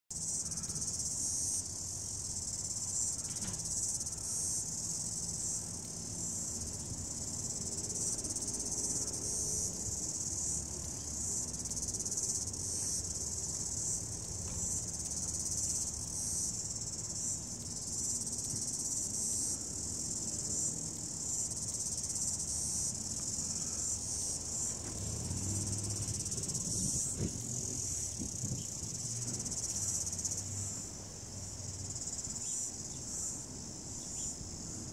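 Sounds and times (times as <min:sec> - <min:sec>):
insects singing: 0:00.2 - 0:34.8.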